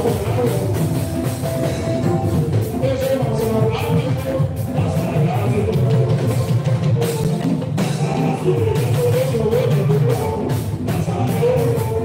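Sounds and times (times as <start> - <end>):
drums and percussion: 0.0 - 12.0
man singing into a microphone: 0.0 - 12.0.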